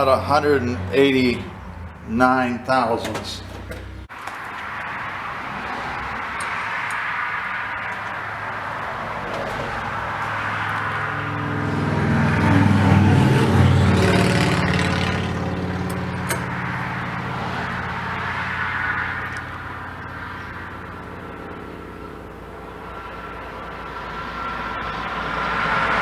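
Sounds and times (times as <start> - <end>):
vehicle engine passing by: 0.0 - 26.0.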